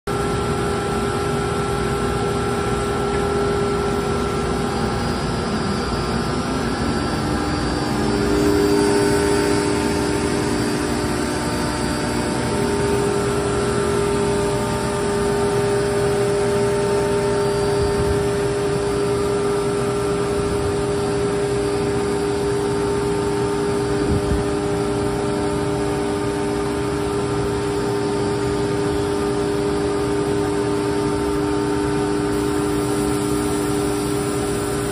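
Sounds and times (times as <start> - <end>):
industrial machinery whining and humming: 0.1 - 34.9.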